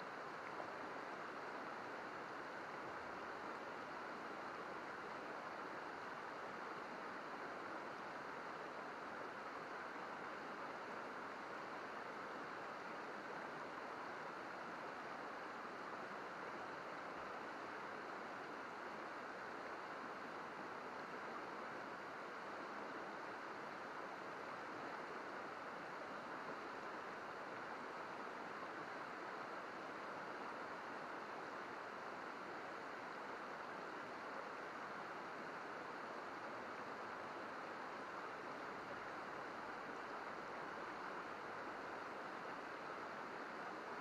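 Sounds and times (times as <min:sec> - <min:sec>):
river babbling over stones: 0:00.1 - 0:44.0.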